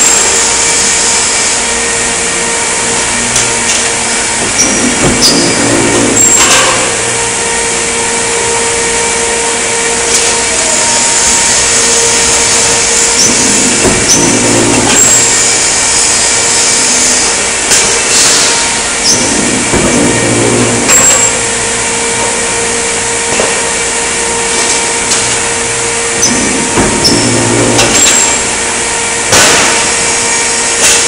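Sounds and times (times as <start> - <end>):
press brake machine hum: 0.0 - 31.0.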